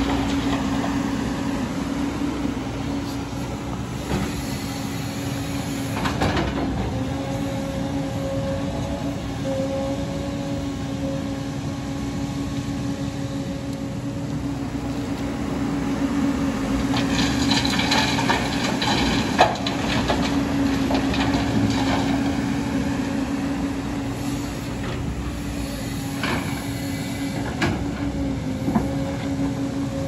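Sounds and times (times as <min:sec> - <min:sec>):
excavator diesel engine under load: 0:00.0 - 0:30.0
hydraulics whining: 0:00.0 - 0:30.0.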